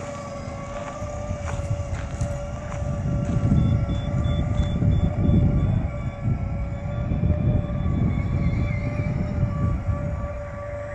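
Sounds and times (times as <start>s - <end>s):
electric motor whine: 0.0s - 10.9s
wind rumble on microphone: 0.0s - 10.9s.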